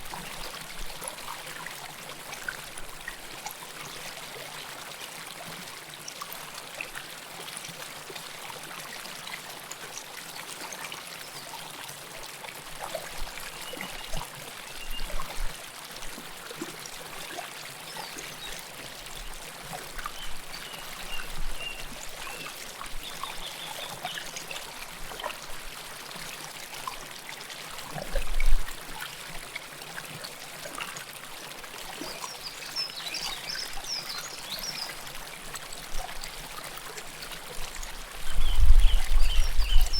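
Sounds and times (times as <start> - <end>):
river water flowing: 0.0 - 38.5.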